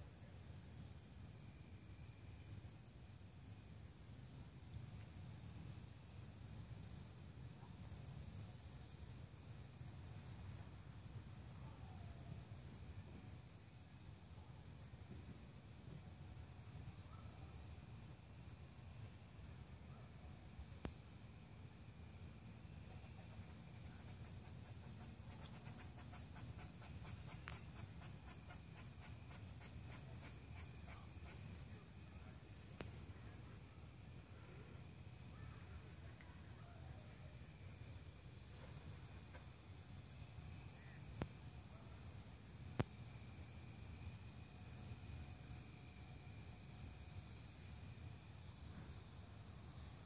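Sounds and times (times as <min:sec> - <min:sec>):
high insect trill: 0:00.0 - 0:50.0
insects chirping: 0:00.0 - 0:50.0.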